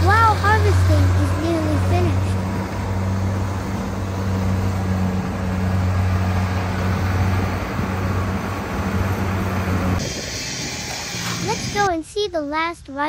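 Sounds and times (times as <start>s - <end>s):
harvester diesel engine drone: 0.0s - 11.9s.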